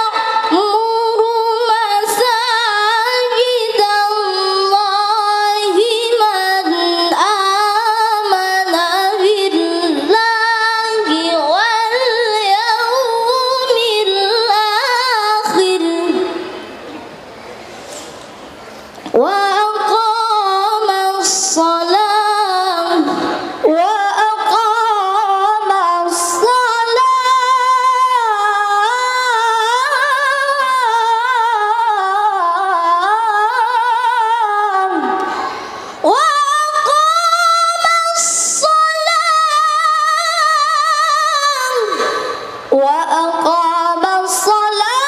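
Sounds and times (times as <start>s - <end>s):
child reciting melodically: 0.0s - 16.5s, 19.1s - 35.2s, 36.0s - 45.0s.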